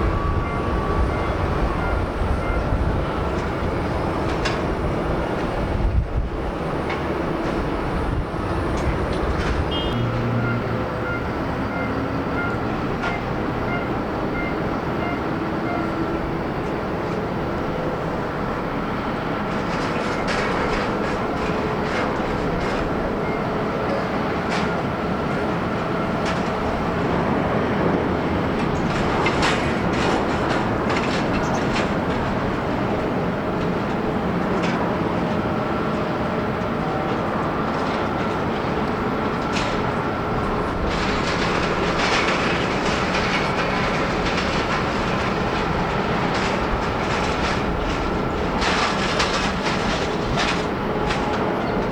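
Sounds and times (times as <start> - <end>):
jet engines rumbling with whine: 0.0 - 51.9.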